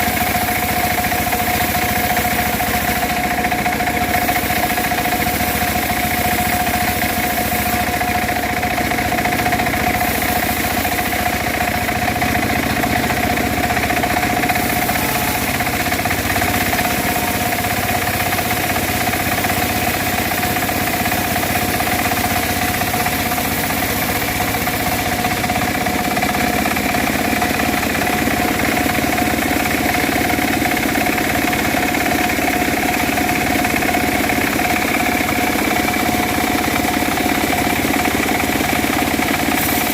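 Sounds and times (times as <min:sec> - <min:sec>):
bandsaw whine: 0:00.0 - 0:39.9
sawmill engine running: 0:00.0 - 0:39.9.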